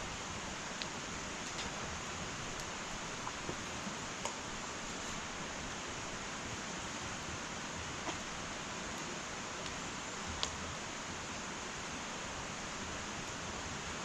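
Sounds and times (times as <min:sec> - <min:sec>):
fire crackles: 0:00.0 - 0:14.0
hearth fire hissing: 0:00.0 - 0:14.0.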